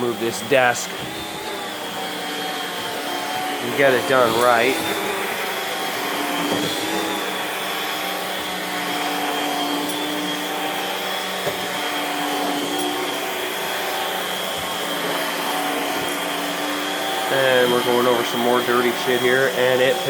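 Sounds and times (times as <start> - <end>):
vacuum cleaner suction hiss: 0.0 - 20.0.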